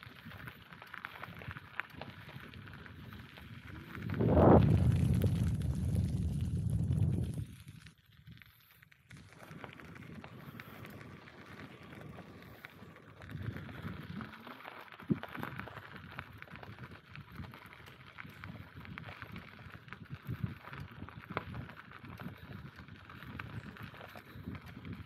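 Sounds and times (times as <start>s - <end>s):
bicycle tyres rolling on track: 0.0s - 25.0s.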